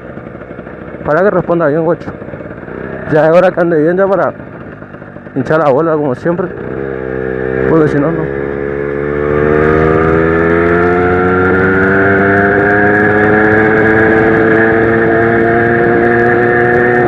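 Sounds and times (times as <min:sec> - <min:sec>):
moped engine accelerating: 0:00.0 - 0:17.0.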